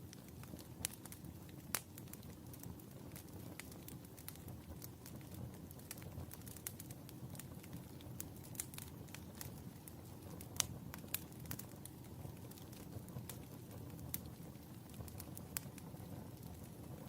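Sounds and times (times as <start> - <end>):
fire crackling and popping: 0.0 - 17.0
rumble of fire flames: 0.0 - 17.0.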